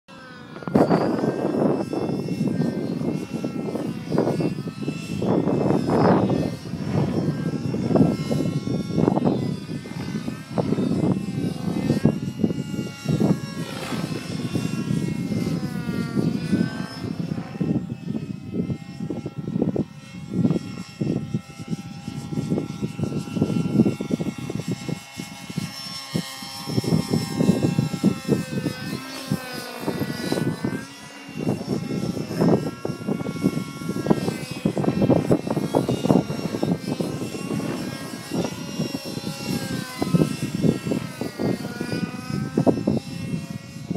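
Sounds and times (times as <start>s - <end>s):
model helicopter engine running: 0.1s - 43.9s.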